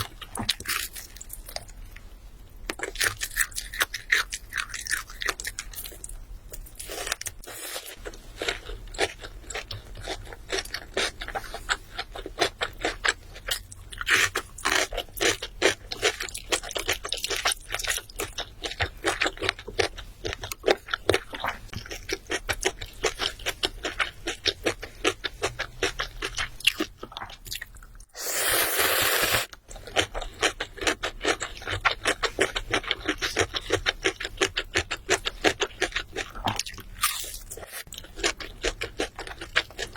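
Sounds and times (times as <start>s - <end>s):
crunching and chewing fried chicken: 0.0s - 28.1s, 29.1s - 39.9s.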